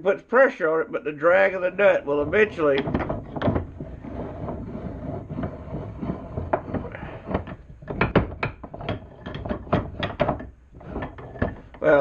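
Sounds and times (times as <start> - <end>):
vise screw rumbling: 2.0 - 12.0
vise knocks and clicks: 2.1 - 11.8.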